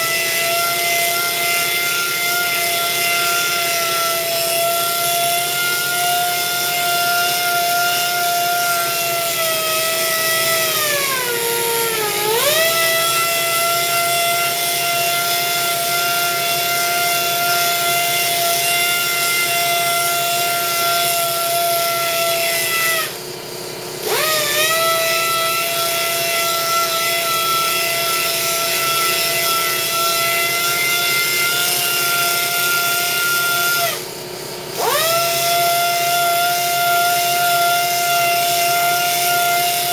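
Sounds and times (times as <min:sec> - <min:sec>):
air polisher whining: 0:00.0 - 0:39.9.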